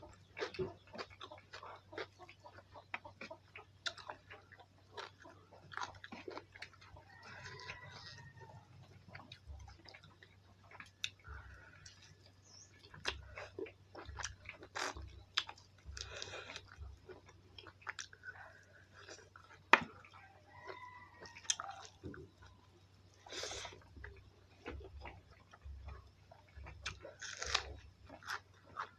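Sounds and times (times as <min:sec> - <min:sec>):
chewing and biting: 0:00.0 - 0:22.6, 0:23.2 - 0:28.9.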